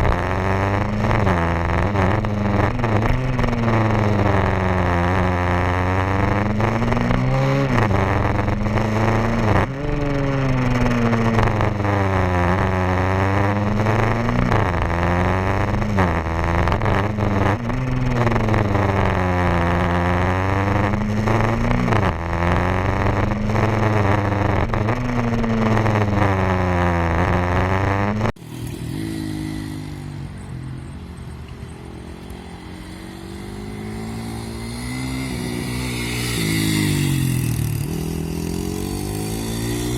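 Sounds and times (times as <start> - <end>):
quieter engine running: 0.0 - 39.9
small motorbike engine revving: 0.0 - 39.9.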